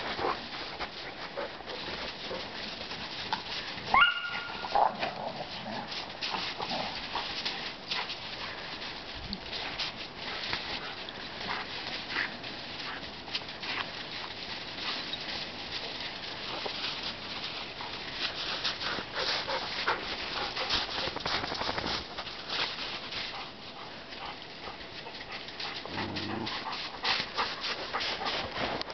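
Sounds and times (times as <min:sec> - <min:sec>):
dogs crunching and scuffling in snow: 0:00.0 - 0:28.9.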